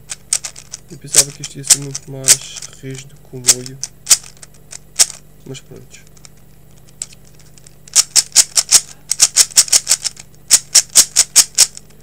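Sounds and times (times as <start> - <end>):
plastic puzzle cube clicking: 0.1 - 2.8, 3.4 - 5.2, 6.1 - 12.0.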